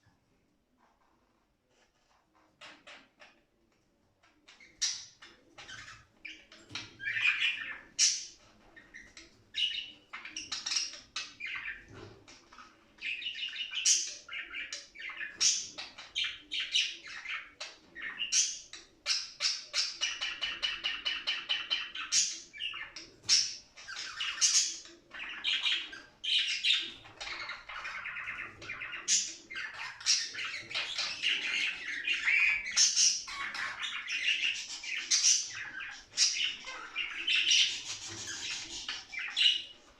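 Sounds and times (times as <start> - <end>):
budgerigars chirping and warbling: 4.2 - 39.9.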